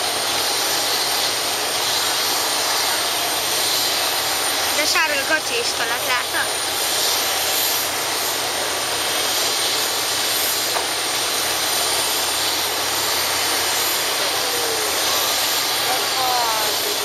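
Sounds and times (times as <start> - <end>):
jet engines hissing: 0.0 - 17.0.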